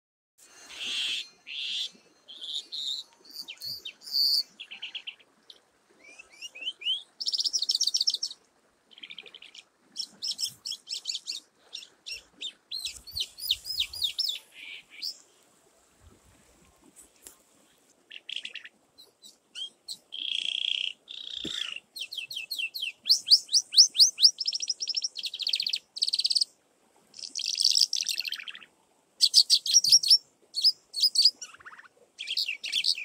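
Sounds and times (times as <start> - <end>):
songbird singing: 0.7 - 15.3, 18.1 - 26.6, 27.2 - 33.0.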